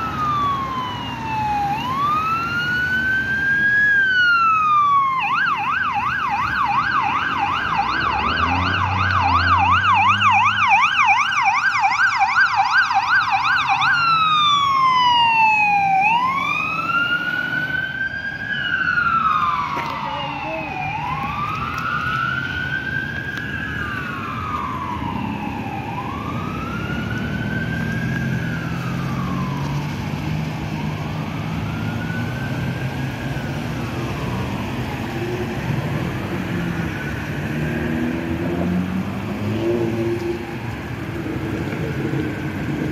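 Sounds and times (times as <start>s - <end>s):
ambulance siren wailing: 0.0s - 42.9s
road traffic rumble: 0.0s - 42.9s.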